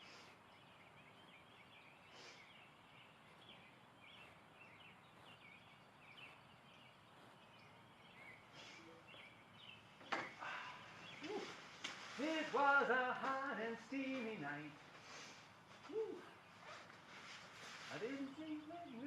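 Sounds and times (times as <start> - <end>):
faint bird chirping: 0.0 - 19.0
steady background hiss: 0.0 - 19.0.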